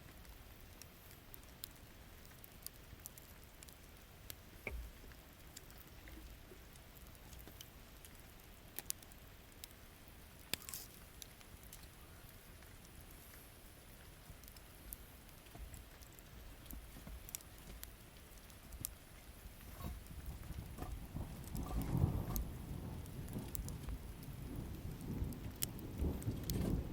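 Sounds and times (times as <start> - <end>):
campfire crackling and popping: 0.0 - 26.9
faint rain hiss: 0.0 - 26.9.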